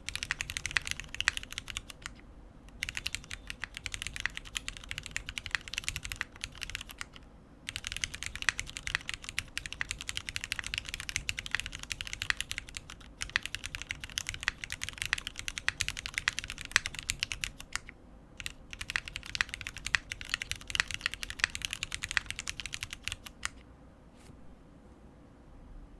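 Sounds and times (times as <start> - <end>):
mechanical keyboard typing: 0.0 - 23.6.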